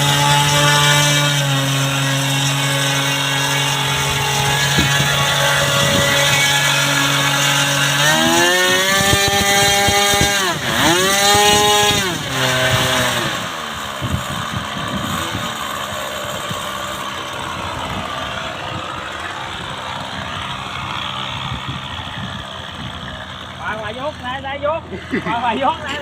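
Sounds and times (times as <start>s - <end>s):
model airplane engine: 0.0s - 26.0s.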